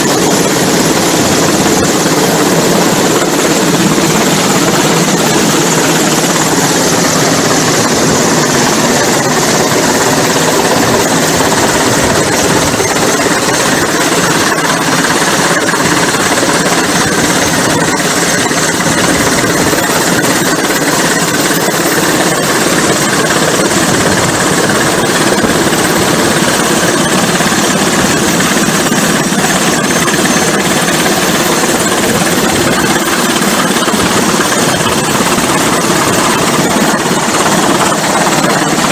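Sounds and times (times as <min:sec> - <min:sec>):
helicopter hovering: 0:00.0 - 0:38.9.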